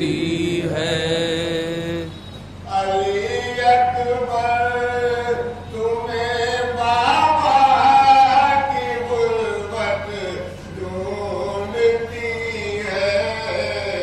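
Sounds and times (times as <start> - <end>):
man chanting a lament: 0.0 - 14.0.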